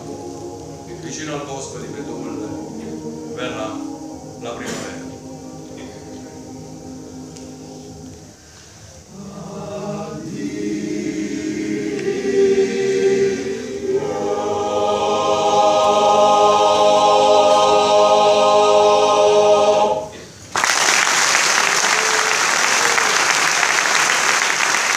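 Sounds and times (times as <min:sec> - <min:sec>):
male choir singing unaccompanied: 0:00.0 - 0:20.4.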